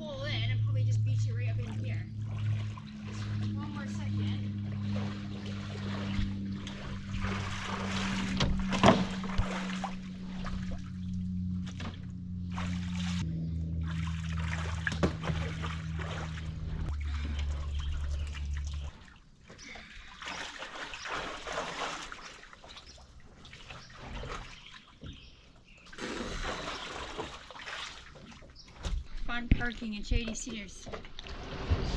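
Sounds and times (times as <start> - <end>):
boat engine running slowly: 0.0 - 31.9
water trickling and splashing: 1.1 - 31.9.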